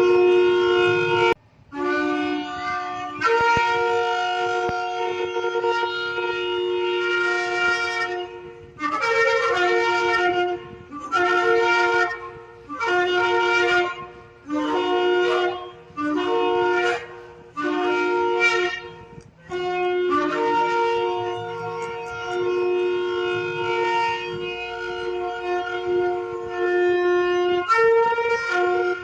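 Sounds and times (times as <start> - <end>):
shofar blasts: 0.0 - 29.0.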